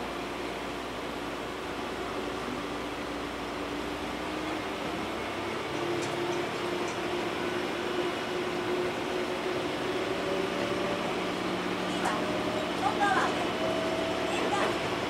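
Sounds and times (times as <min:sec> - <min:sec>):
train hum with held tone: 0:00.0 - 0:15.0.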